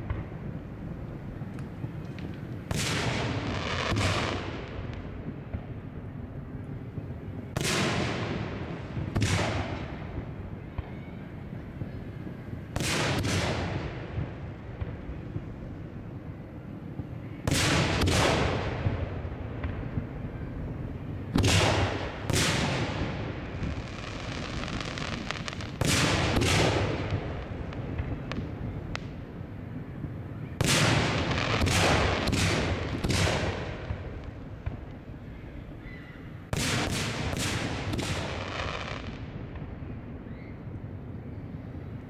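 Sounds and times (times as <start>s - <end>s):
firework booms: 0.0s - 15.6s, 16.9s - 29.2s, 30.0s - 34.9s, 36.5s - 39.8s.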